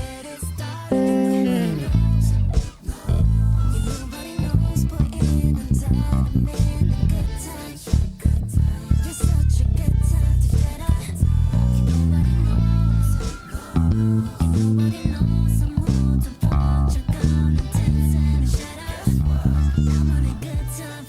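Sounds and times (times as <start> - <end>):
backing track with drums: 0.9 - 9.5, 10.4 - 20.8
electric bass line: 0.9 - 20.8.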